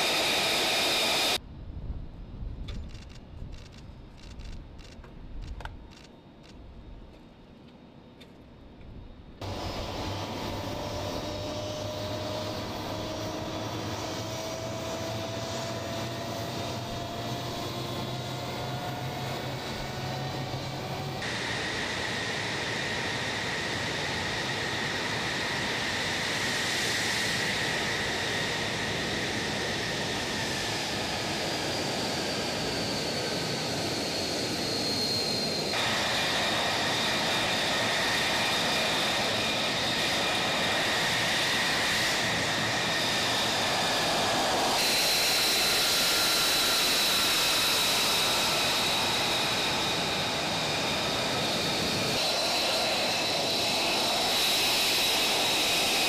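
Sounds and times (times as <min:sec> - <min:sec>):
jet engines idling with turbine whine: 0:00.0 - 0:56.0.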